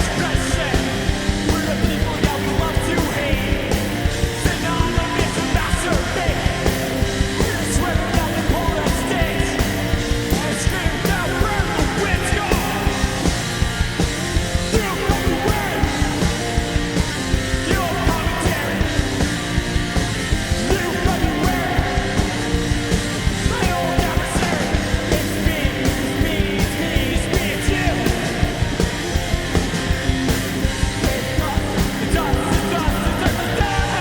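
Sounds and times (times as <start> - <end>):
person singing: 0.0 - 19.6, 20.4 - 29.7, 31.0 - 34.0
fast drumbeat: 0.0 - 34.0
guitars: 0.0 - 34.0.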